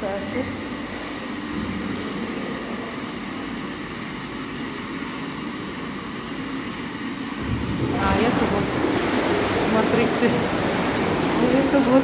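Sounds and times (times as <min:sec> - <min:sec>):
air jets bubbling in spa pool: 0:00.0 - 0:12.0.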